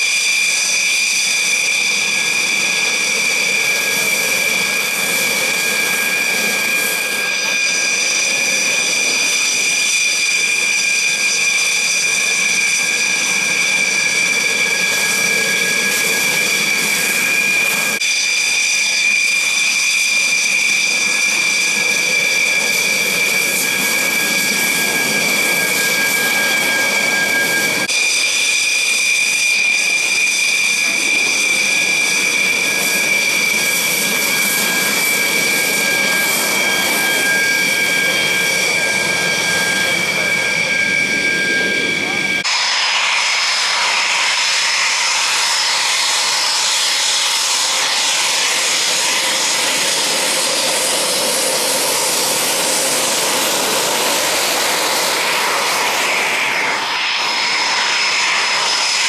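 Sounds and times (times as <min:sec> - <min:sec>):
jet engines high-pitched whine: 0:00.0 - 0:59.0.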